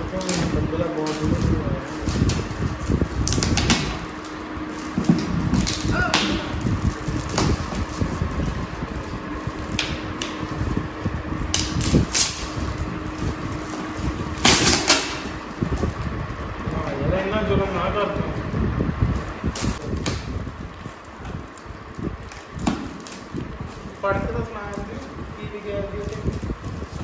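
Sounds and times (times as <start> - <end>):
foil wrapping paper crinkling: 0.0 - 27.0
steady low hum: 0.0 - 27.0.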